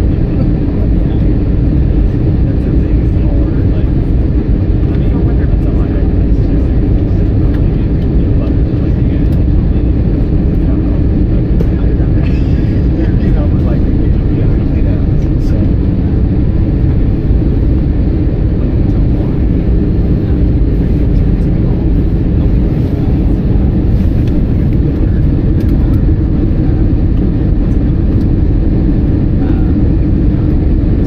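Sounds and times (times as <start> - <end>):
jet airliner engine rumble: 0.0 - 31.0.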